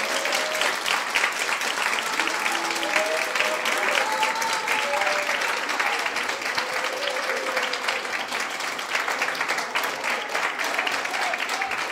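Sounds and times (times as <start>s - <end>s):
crowd applause: 0.0s - 11.9s.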